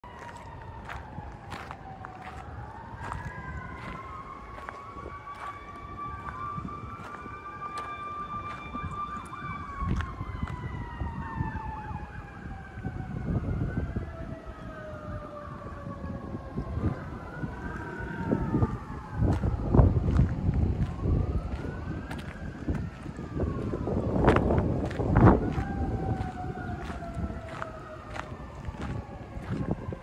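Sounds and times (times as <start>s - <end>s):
steady siren tone: 0.0s - 30.0s
wailing siren: 0.0s - 30.0s
wind rumble on microphone: 0.0s - 30.0s.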